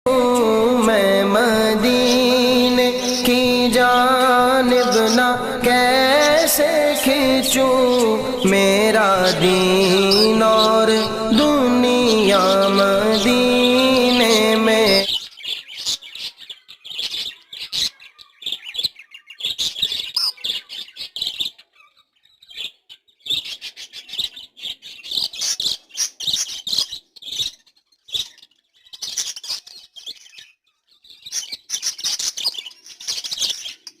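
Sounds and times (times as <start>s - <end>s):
budgerigars chirping and chattering: 0.1s - 34.0s.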